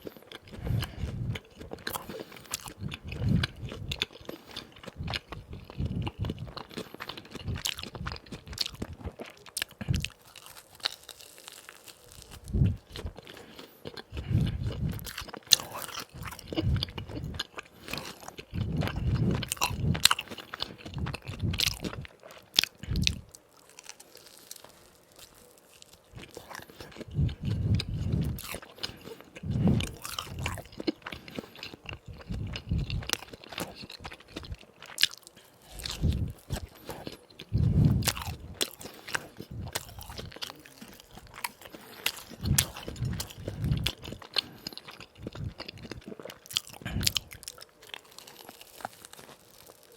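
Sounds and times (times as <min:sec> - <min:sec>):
crunchy biting: 0:00.0 - 0:49.9
wet chewing: 0:00.0 - 0:49.9.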